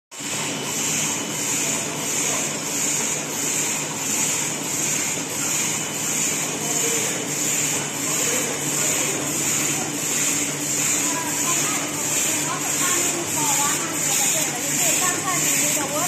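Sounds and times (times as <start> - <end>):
machine mechanical hum: 0.1 - 16.0.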